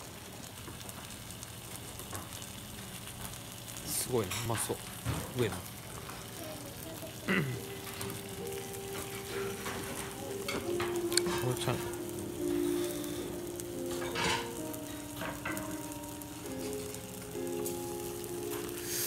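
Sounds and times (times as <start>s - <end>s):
meat and egg sizzling on iron plate: 0.0s - 19.0s.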